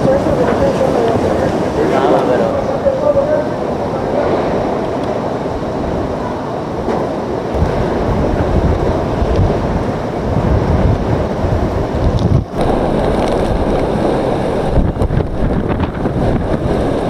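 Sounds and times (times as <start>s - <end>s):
rushing wind and rain: 0.0s - 17.0s
wind buffeting the microphone: 0.0s - 17.0s.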